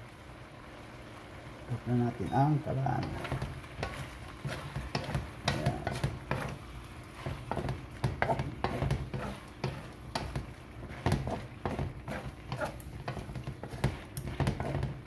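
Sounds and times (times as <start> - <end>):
spatula scraping a wok: 2.7 - 15.0.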